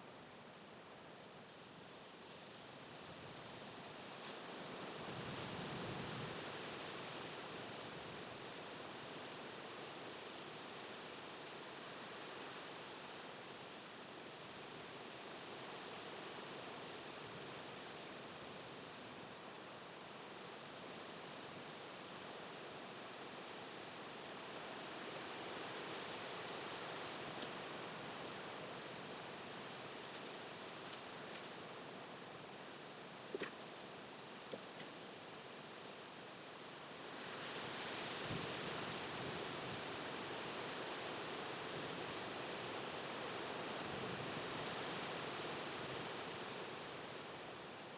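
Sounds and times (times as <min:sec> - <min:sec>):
soft outdoor hiss: 0:00.0 - 0:47.9.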